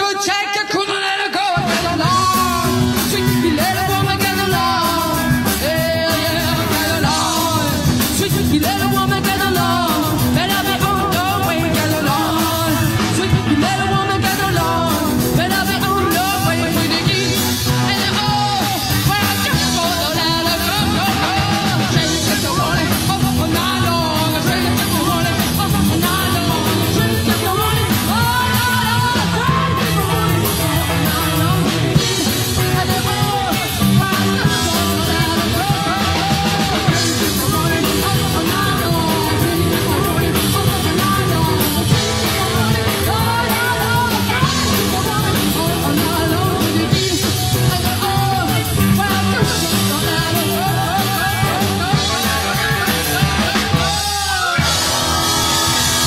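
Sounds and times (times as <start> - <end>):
drum kit: 0.0 - 56.0
electric guitar: 0.0 - 56.0
woman singing: 0.0 - 56.0.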